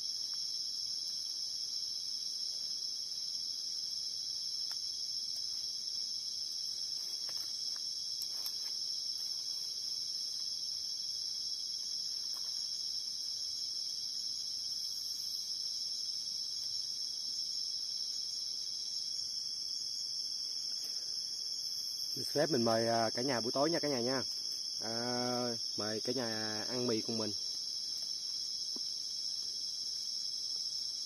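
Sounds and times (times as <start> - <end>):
night insects chirping: 0.0 - 31.0.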